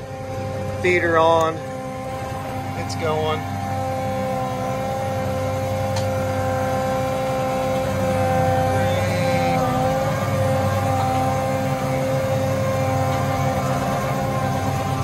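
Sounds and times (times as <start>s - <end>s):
high whine: 0.0s - 15.0s
tractor diesel engine under load: 0.0s - 15.0s.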